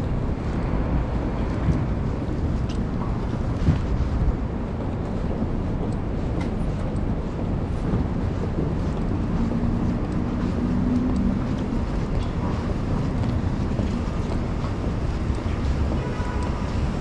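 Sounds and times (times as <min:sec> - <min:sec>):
low engine hum: 0:00.0 - 0:17.0
traffic rumble: 0:00.0 - 0:17.0.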